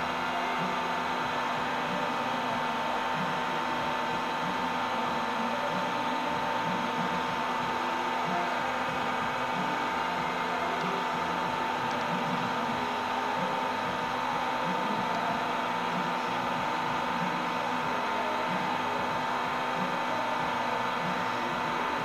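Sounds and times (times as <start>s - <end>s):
motor hum with whine: 0.0s - 22.0s.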